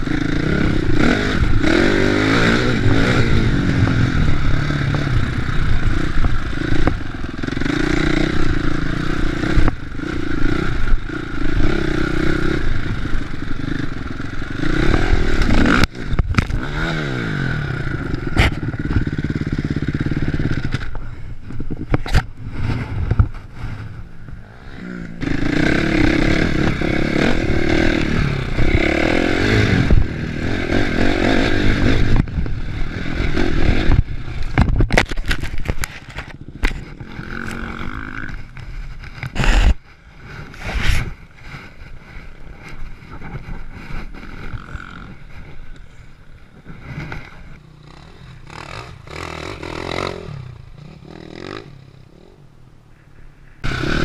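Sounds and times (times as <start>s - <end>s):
dirt bike engine revving: 0.0s - 52.4s, 53.6s - 54.0s
knocks and scrapes from bike: 1.0s - 17.1s, 17.9s - 51.8s.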